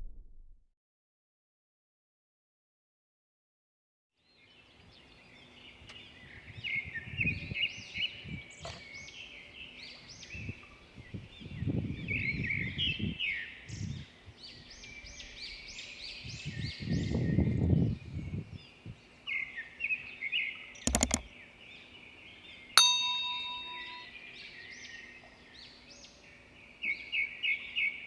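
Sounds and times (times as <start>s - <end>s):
songbirds chirping: 4.2s - 28.0s.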